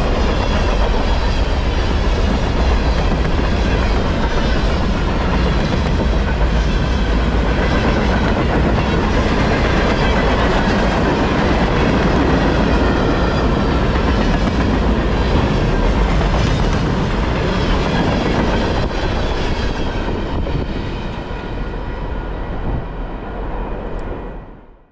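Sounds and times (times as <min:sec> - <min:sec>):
freight train rolling on rails: 0:00.0 - 0:24.8.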